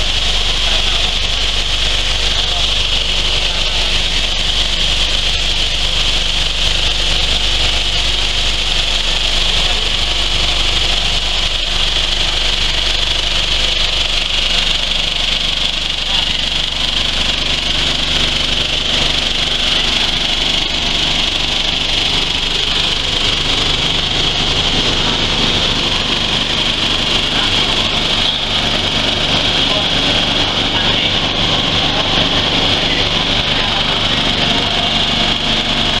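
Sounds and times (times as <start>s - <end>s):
machine motor hum: 0.0s - 36.0s.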